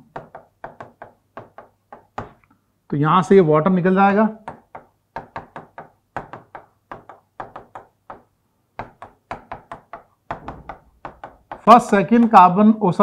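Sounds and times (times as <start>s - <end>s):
stylus tapping on screen: 0.0s - 2.6s, 4.2s - 12.6s.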